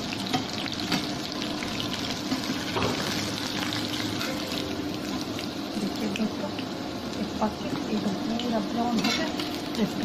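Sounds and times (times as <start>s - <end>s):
batter frying in hot oil: 0.0s - 10.0s.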